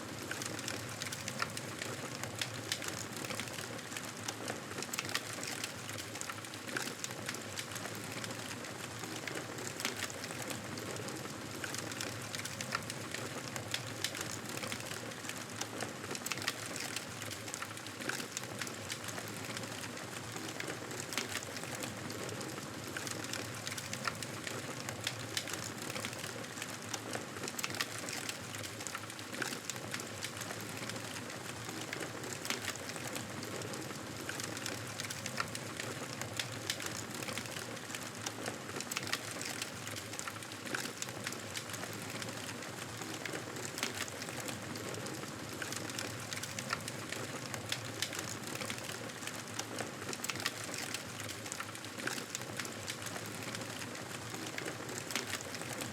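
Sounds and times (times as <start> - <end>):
fireplace fire crackling: 0.0 - 55.9.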